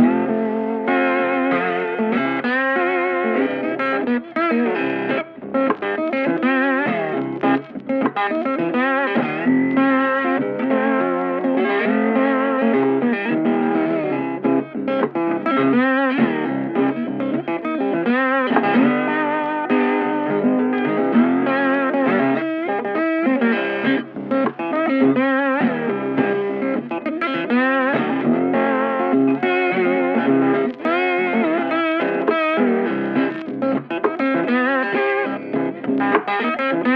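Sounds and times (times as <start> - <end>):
electric guitar music: 0.0 - 36.9.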